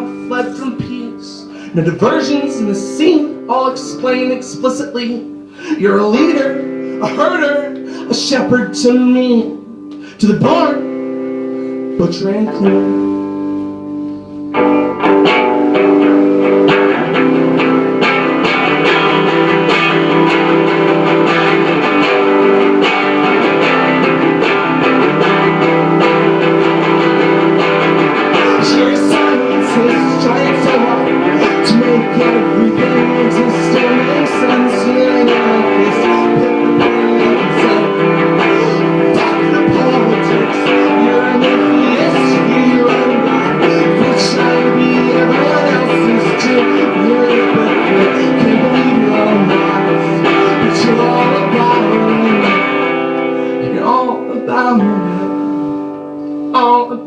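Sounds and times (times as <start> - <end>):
guitar strumming chords: 0.0 - 57.0.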